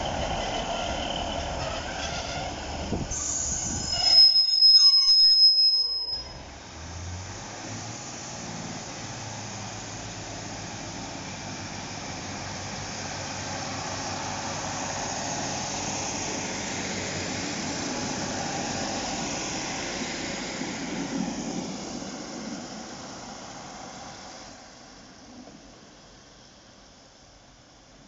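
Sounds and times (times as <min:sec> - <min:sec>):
diesel train engine roar: 0:00.0 - 0:28.0.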